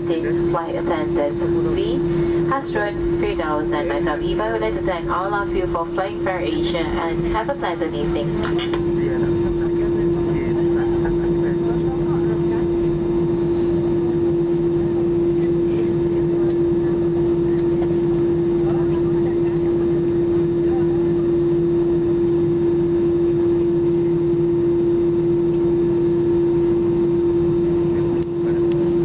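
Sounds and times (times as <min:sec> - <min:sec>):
airplane cabin drone: 0:00.0 - 0:29.0
constant hum: 0:00.0 - 0:29.0.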